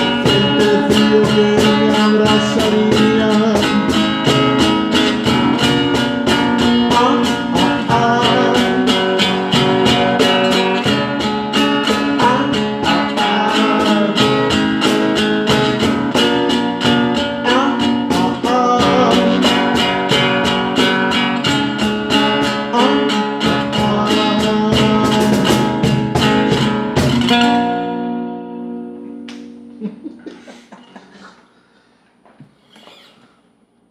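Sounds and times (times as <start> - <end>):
strummed acoustic guitar: 0.0 - 31.4.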